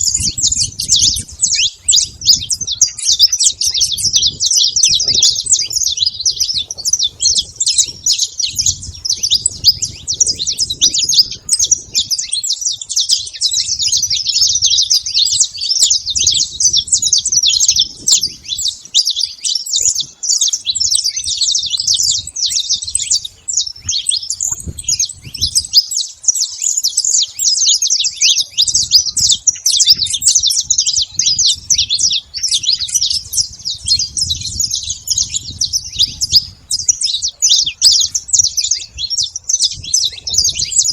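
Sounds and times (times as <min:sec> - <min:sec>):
finch singing chirps and trills: 0:00.0 - 0:40.9.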